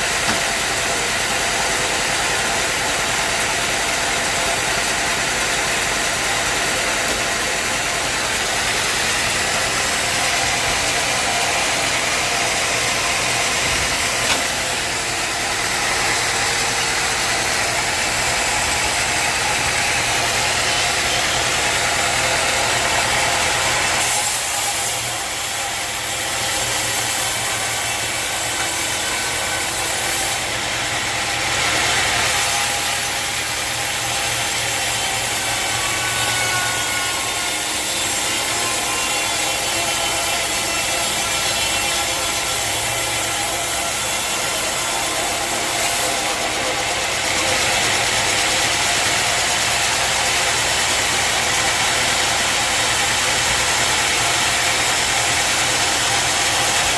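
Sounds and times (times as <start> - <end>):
mill engine running: 0.0 - 56.9
saw blade cutting through log: 0.0 - 56.9.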